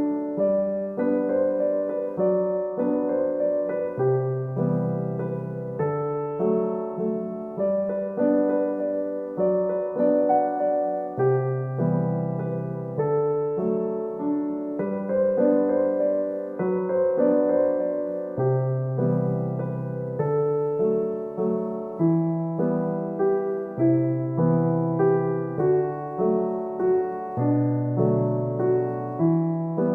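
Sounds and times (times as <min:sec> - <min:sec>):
gentle solo piano: 0:00.0 - 0:29.9.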